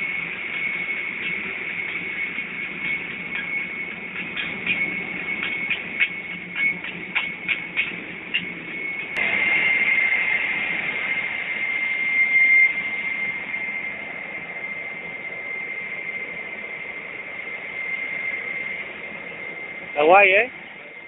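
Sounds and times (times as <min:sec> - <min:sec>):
jet airliner whine and hiss: 0:00.0 - 0:21.0.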